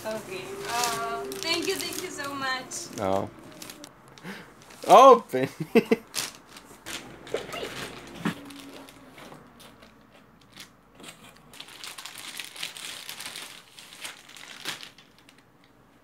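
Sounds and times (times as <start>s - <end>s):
plastic bag crinkling: 0.0s - 5.2s, 5.9s - 15.5s.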